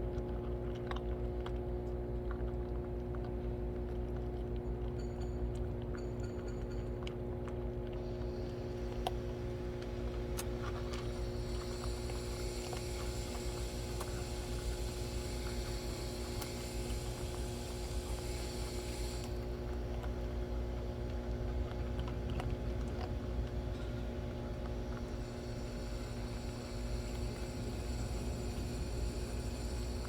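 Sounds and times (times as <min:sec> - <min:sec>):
low mechanical hum with held tones: 0:00.0 - 0:30.0.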